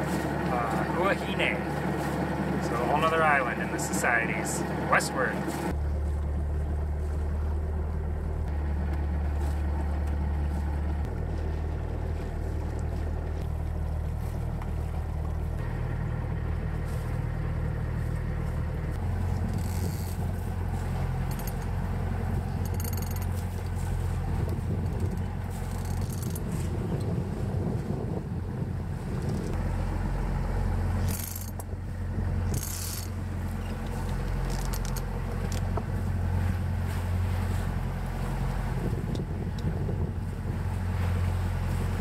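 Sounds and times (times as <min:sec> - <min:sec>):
wind and water rushing: 0:00.0 - 0:05.8, 0:09.2 - 0:42.0
deck gear rattling: 0:00.0 - 0:27.3, 0:28.0 - 0:42.0
steady low drone: 0:00.0 - 0:42.0.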